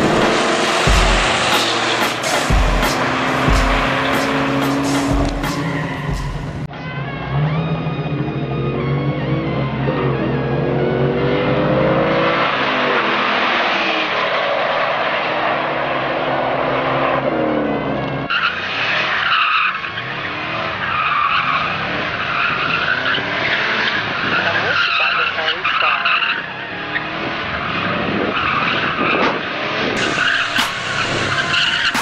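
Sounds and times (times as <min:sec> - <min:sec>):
car engines accelerating: 0:00.0 - 0:32.0
tires squealing: 0:00.0 - 0:32.0.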